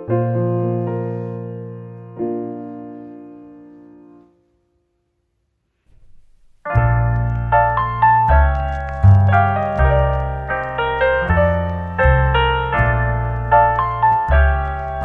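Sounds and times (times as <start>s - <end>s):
piano music: 0.0s - 4.4s, 6.1s - 15.0s.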